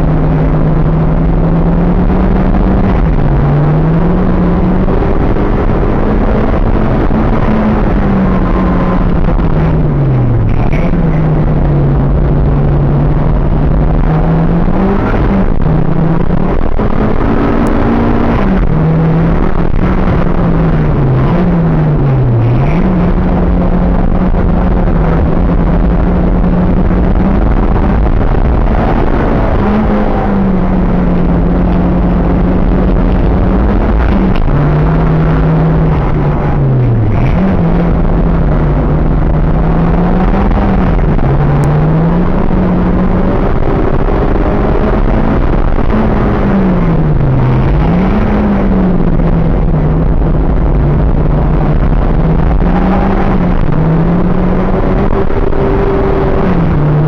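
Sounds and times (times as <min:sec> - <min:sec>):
car engine working hard: 0:00.0 - 0:57.0
road and tyre noise: 0:00.0 - 0:57.0.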